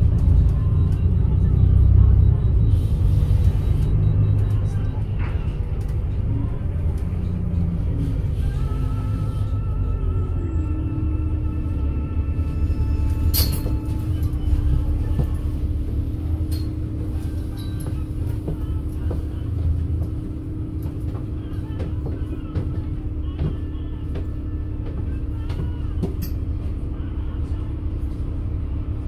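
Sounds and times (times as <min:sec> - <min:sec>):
bus engine rumbling: 0:00.0 - 0:29.0.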